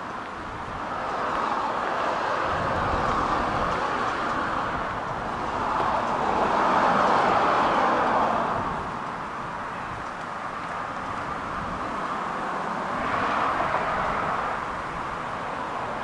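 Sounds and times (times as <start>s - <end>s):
passing traffic rushing: 0.0s - 16.0s.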